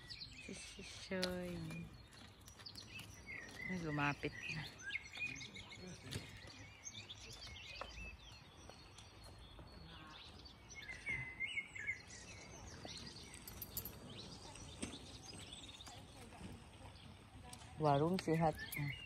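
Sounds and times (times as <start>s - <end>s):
outdoor background noise: 0.0s - 19.0s
songbirds chirping and calling: 0.0s - 19.0s.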